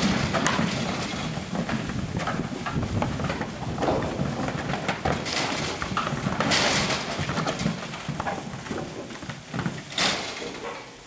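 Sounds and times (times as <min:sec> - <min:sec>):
hooves clattering on a ramp: 0:00.0 - 0:11.0.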